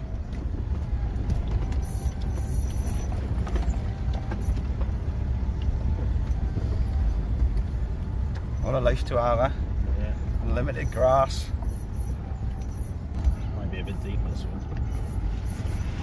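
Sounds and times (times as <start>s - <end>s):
engine and tyres rumbling: 0.0s - 16.0s
vehicle knocks and rattles: 0.0s - 16.0s.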